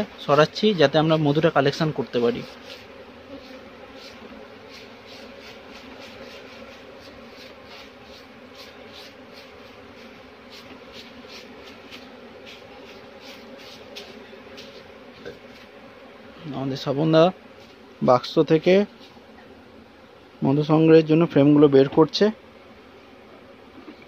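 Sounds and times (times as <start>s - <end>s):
bee brush swishes: 0.0s - 24.0s
honeybees buzzing: 0.0s - 24.0s.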